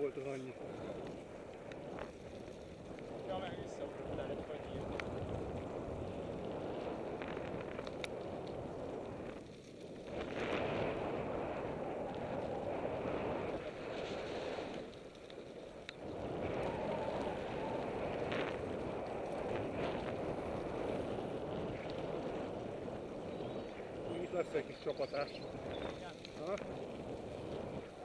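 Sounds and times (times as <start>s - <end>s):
bike tyres rumbling on gravel: 0.0s - 28.0s
wind rushing over microphone: 0.0s - 28.0s.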